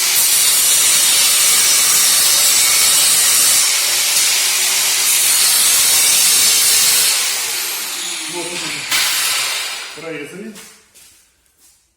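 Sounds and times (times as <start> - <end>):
angle grinder cutting steel: 0.0 - 10.2.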